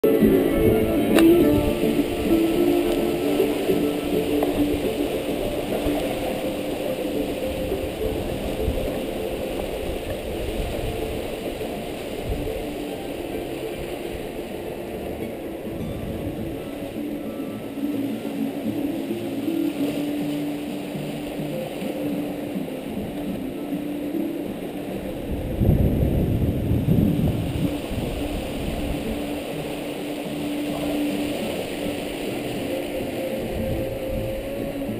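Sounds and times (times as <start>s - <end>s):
water rushing along hulls: 0.0s - 34.9s
wind buffeting microphone: 0.0s - 34.9s.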